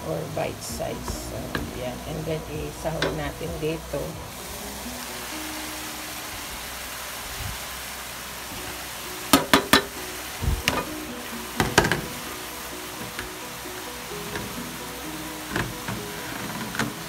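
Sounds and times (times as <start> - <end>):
zucchini simmering hiss: 0.0 - 17.0.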